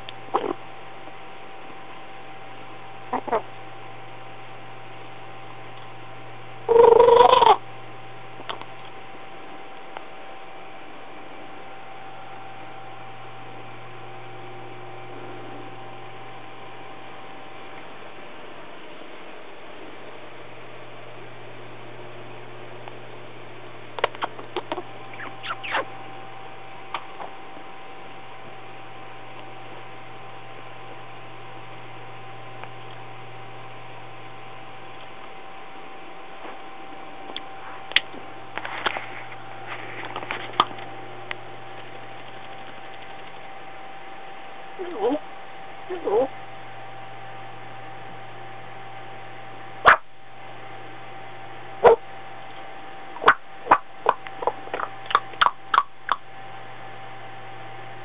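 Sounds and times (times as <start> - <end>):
electrical hum and hiss: 0.0 - 58.0.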